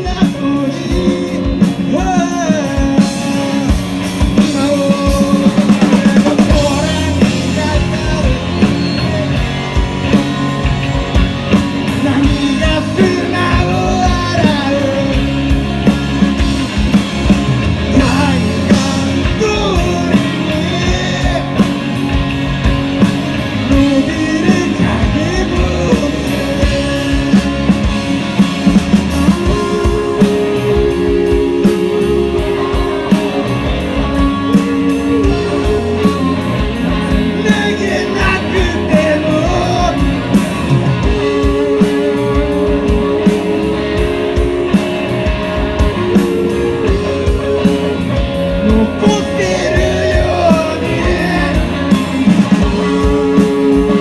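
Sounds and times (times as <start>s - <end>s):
person singing: 0.0s - 16.5s, 17.9s - 22.2s, 23.6s - 54.0s
rock band playing live: 0.0s - 54.0s.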